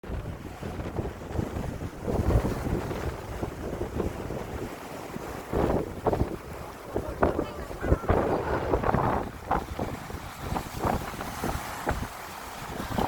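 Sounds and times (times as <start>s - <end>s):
waves on rocky shore: 0.0s - 13.0s
wind buffeting microphone: 0.0s - 13.0s.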